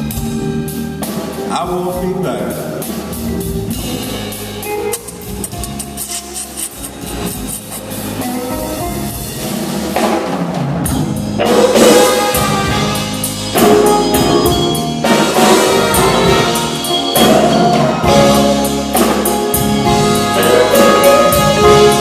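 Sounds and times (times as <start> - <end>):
drum kit: 0.0 - 22.0
live blues band playing: 0.0 - 22.0.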